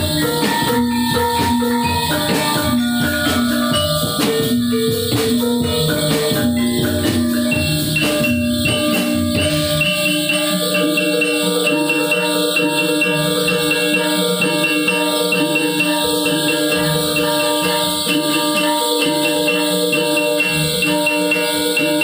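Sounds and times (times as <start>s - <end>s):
drums and tuned percussion: 0.0s - 22.0s.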